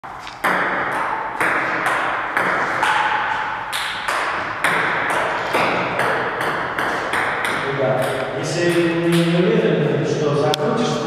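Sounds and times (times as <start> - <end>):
ping pong ball clicking off paddles: 0.2 - 9.6
ball bouncing on table: 0.3 - 9.5.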